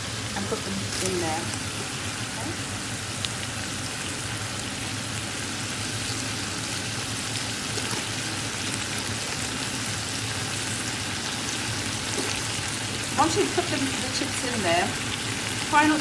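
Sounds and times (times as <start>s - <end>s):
hot oil sizzling: 0.0s - 16.0s.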